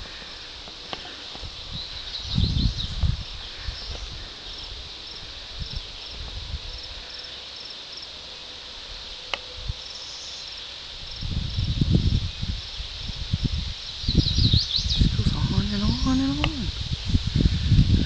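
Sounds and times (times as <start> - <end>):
faint outdoor hiss: 0.0 - 18.0
insect chirping: 0.0 - 18.0.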